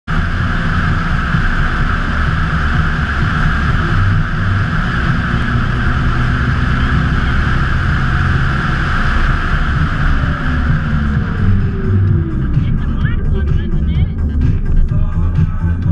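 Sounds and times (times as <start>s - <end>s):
engine drone: 0.0s - 15.9s
wind and road rush: 0.0s - 15.9s.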